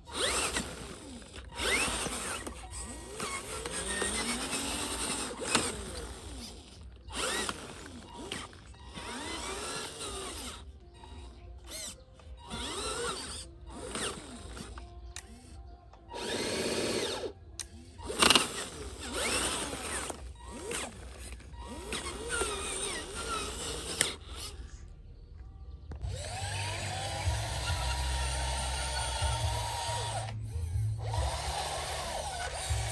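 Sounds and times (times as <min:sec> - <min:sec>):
small electric motors whining: 0:00.0 - 0:32.9.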